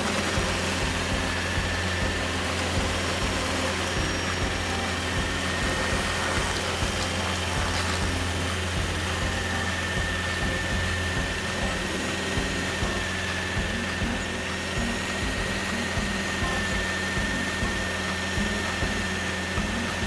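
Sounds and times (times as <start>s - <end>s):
high whine: 0.0s - 20.0s
stump grinder engine drone: 0.0s - 20.0s.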